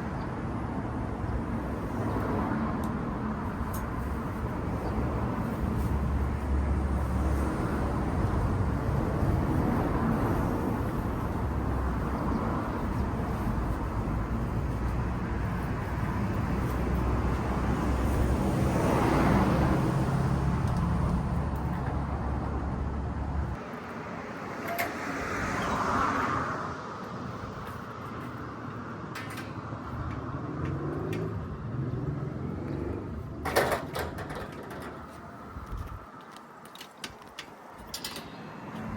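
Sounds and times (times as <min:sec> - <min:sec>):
vehicle and road rumble: 0:00.0 - 0:38.9
vehicles passing hiss: 0:00.0 - 0:38.9.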